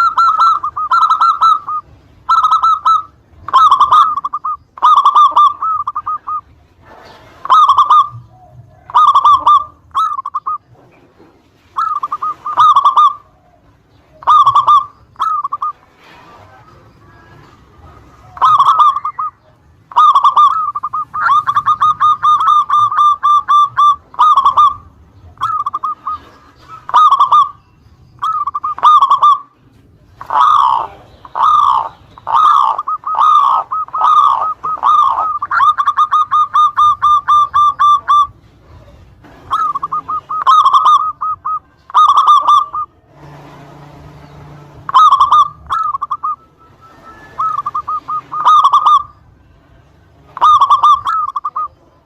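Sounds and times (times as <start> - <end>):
dove cooing: 0.0 - 49.4, 50.2 - 52.0.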